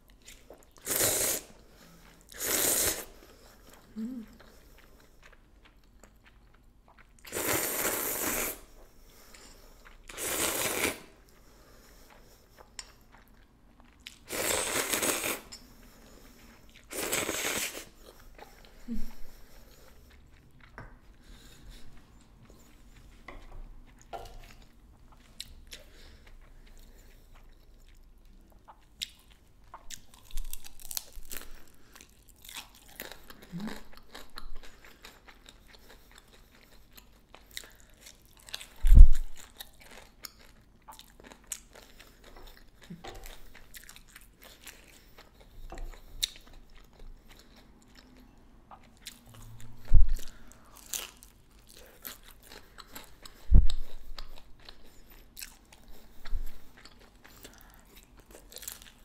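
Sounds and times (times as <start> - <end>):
chewing and crunching food: 3.1 - 7.9, 11.1 - 59.0.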